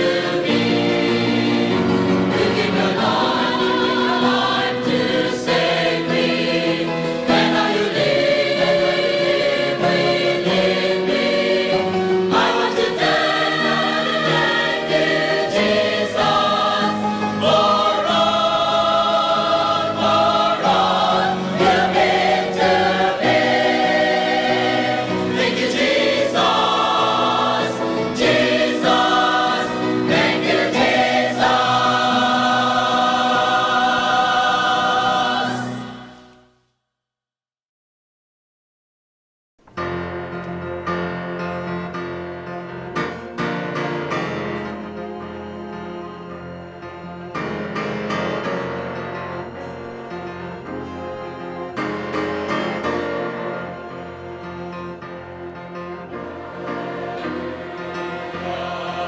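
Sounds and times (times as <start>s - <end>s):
choir singing sustained chords: 0.0s - 36.6s, 40.9s - 59.0s.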